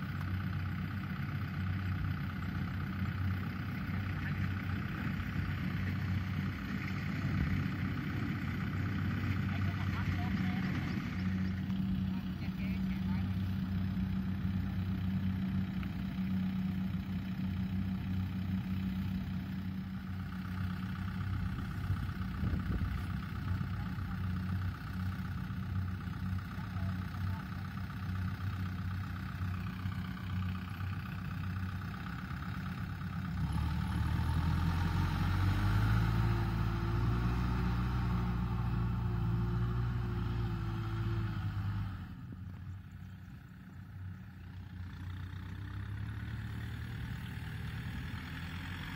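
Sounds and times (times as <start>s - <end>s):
diesel farm machinery engine: 0.0s - 48.9s.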